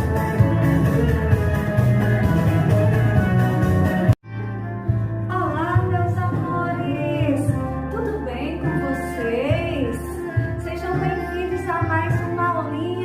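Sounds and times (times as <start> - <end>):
song with bass and beat: 0.0 - 13.0.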